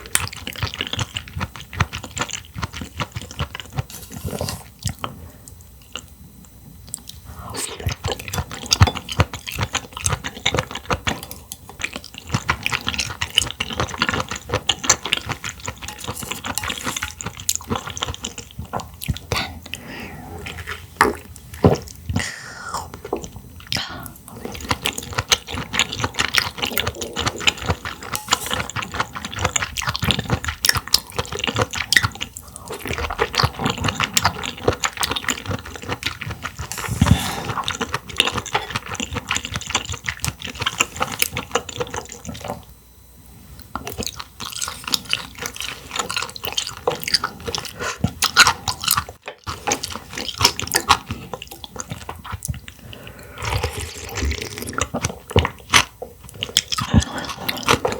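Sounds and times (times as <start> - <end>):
wet chewing and slurping: 0.0 - 42.8, 43.5 - 57.9.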